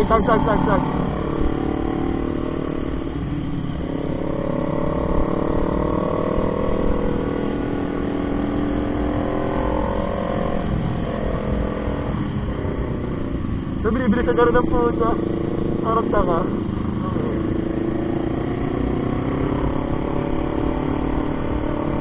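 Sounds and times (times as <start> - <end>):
low rush of wind: 0.0 - 22.0
motorcycle engine running: 0.0 - 22.0.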